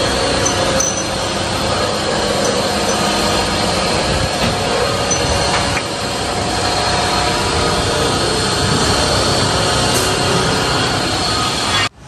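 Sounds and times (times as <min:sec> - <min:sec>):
loud workshop rushing noise: 0:00.0 - 0:12.0.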